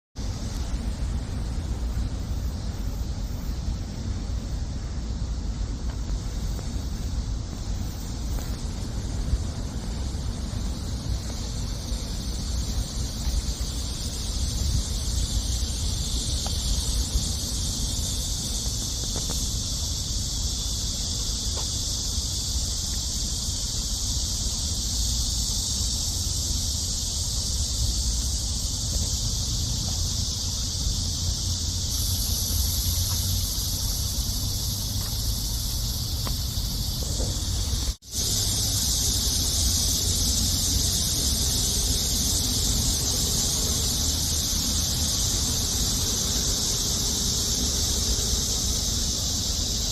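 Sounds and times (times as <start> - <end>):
insects buzzing: 0.2 - 49.9.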